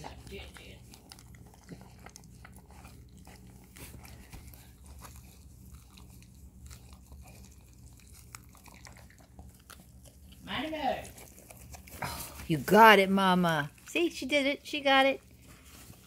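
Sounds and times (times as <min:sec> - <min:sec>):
dog licking and chewing: 0:00.0 - 0:16.0.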